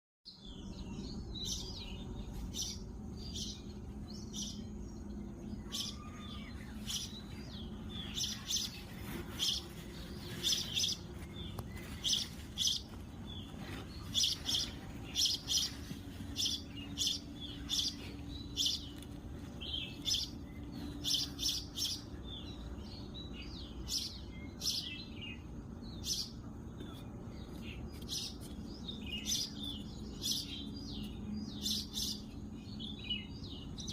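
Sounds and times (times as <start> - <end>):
birds chirping: 0.3 - 33.9.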